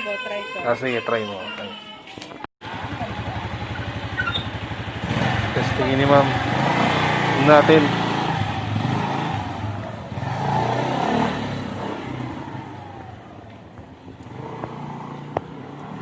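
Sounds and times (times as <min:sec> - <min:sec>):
motorcycle engine accelerating away: 0:02.6 - 0:16.0.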